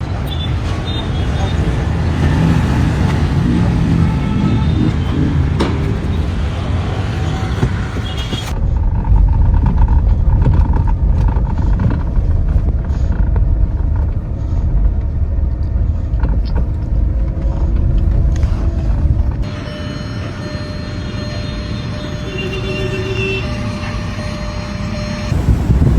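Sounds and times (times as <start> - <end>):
car engine rumble: 0.0 - 22.5, 23.4 - 25.9.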